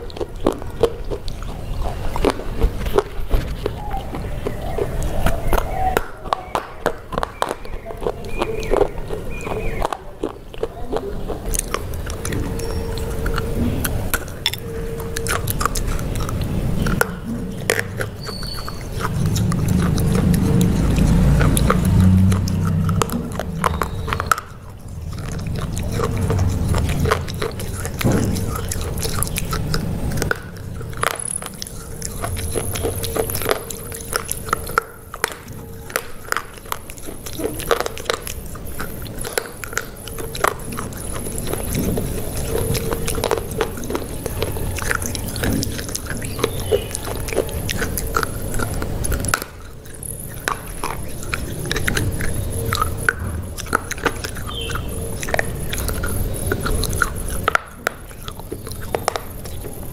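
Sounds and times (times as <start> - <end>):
chewing crunchy burger: 0.0 - 59.9.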